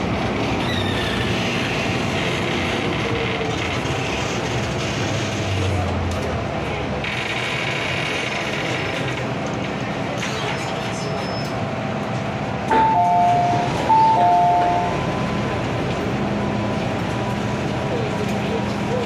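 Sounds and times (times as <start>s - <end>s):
train rumble inside car: 0.0s - 19.0s.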